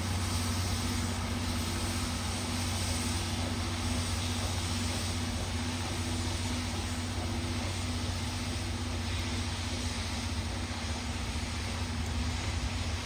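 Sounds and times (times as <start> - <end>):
steam hissing: 0.0 - 13.0
train low hum: 0.0 - 13.0.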